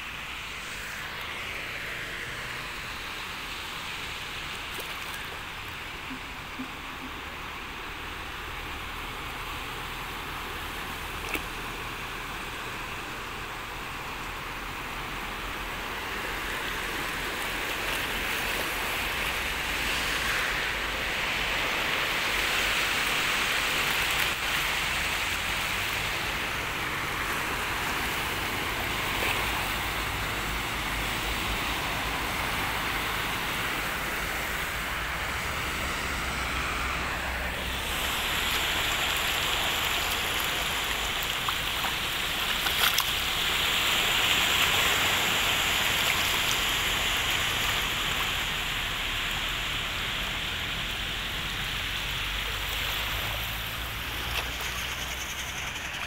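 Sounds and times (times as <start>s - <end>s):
floodwater rushing: 0.0s - 56.0s
car tyres splashing: 0.1s - 56.0s.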